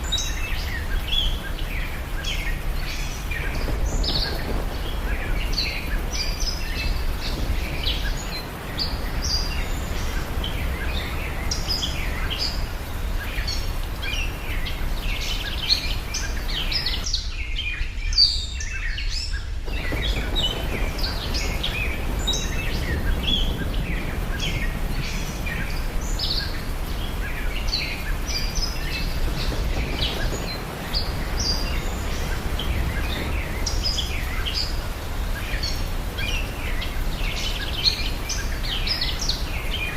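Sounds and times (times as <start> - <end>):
birds chirping and calling: 0.0 - 18.4, 19.0 - 39.9.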